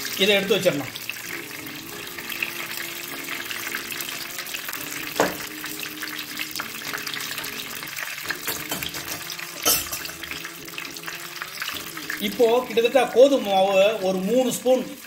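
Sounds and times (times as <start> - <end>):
ghee sizzling in a pan: 0.0 - 15.0.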